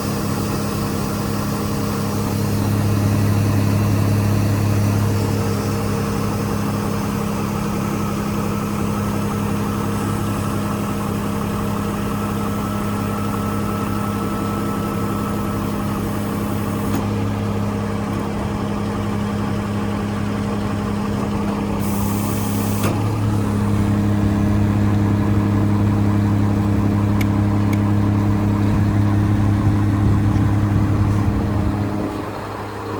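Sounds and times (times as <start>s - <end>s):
diesel truck engine idling: 0.0s - 32.9s.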